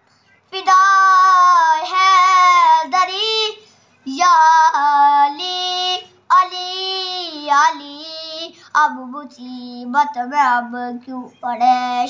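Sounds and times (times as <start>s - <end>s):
boy singing unaccompanied: 0.5s - 12.0s.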